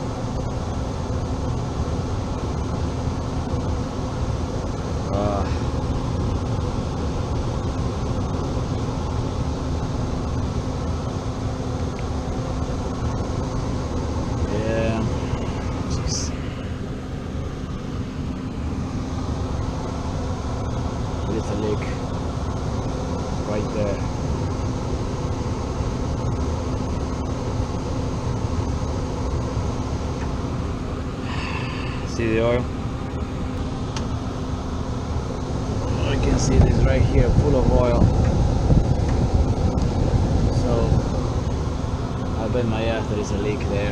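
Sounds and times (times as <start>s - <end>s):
air conditioning fan rush: 0.0s - 43.9s
constant low hum: 0.0s - 43.9s.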